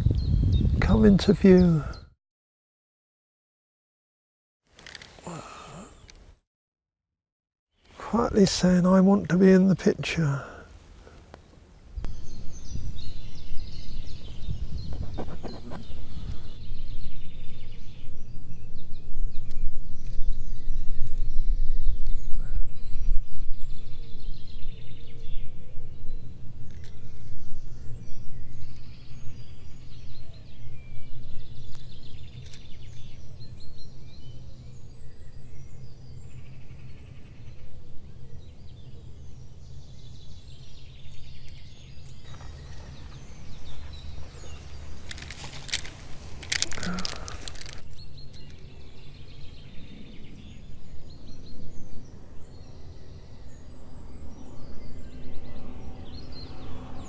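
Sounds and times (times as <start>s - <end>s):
small birds singing: 0.0s - 2.2s, 4.7s - 6.4s, 7.7s - 57.0s.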